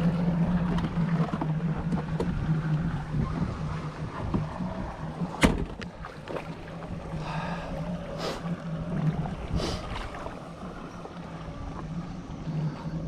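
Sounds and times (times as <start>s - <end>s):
boat engine idling: 0.0s - 13.0s
water noise: 0.0s - 13.0s.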